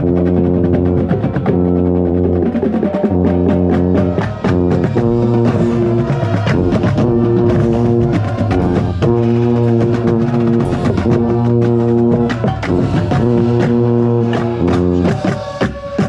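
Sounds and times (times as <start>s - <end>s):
brass chords: 0.0s - 16.0s
rapid drum strokes: 0.0s - 16.0s.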